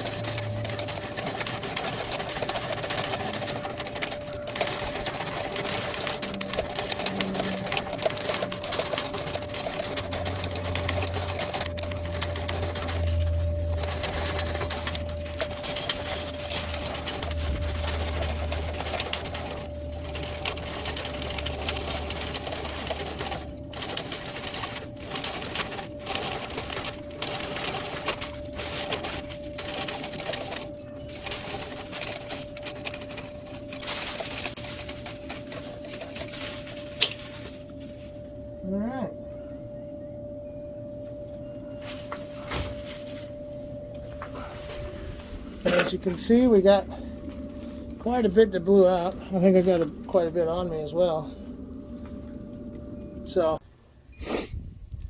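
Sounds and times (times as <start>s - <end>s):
clothes dryer running: 0.0s - 53.6s.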